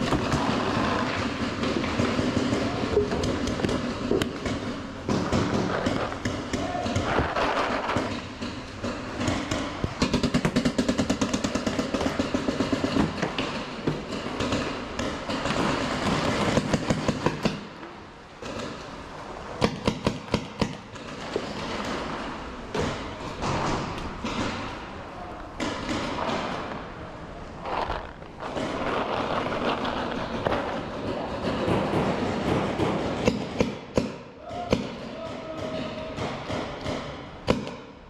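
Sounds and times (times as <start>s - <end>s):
paintball markers firing: 0.0s - 17.8s, 18.4s - 26.9s, 27.6s - 38.0s.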